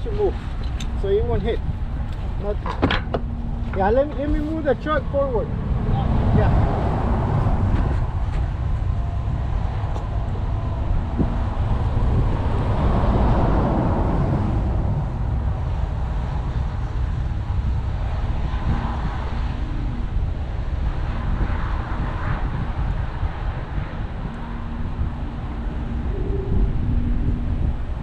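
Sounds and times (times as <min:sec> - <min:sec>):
rushing noise: 0:00.0 - 0:28.0
vehicle engine rumbling: 0:00.0 - 0:28.0.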